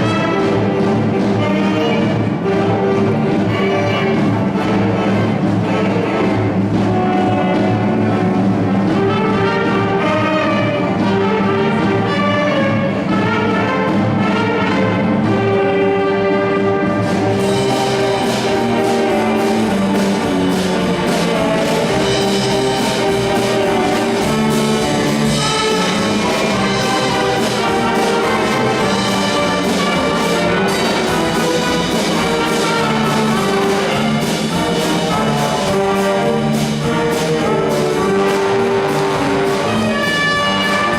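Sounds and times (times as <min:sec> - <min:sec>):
brass sustained notes: 0:00.0 - 0:40.9
school band playing: 0:00.0 - 0:40.9.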